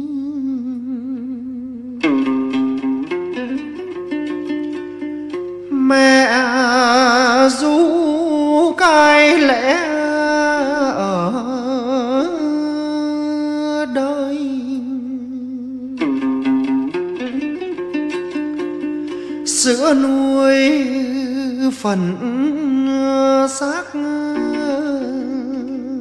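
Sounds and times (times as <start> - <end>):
lute plucking rapidly: 1.5 - 26.0.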